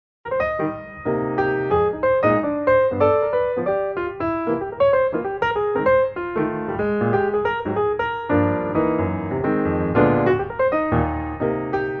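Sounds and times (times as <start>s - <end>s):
piano music: 0.3s - 12.0s.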